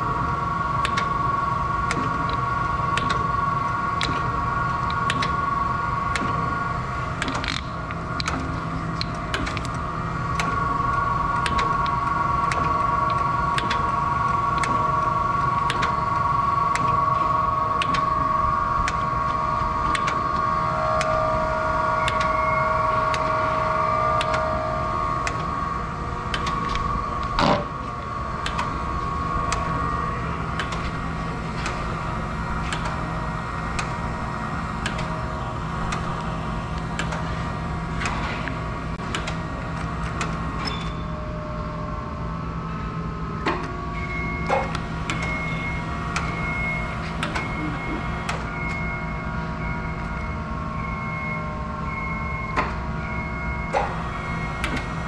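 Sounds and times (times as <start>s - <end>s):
whining tones: 0.0s - 55.0s.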